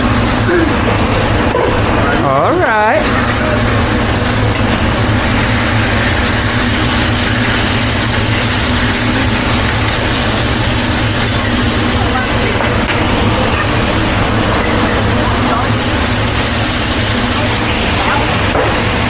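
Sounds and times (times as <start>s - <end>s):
griddle sizzling: 0.0s - 19.0s.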